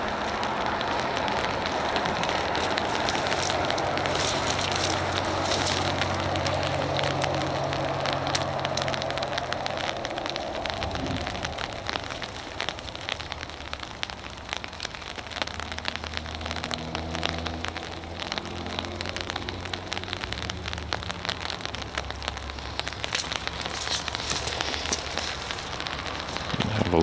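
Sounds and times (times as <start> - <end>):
dense fine pattering: 0.0 - 27.0.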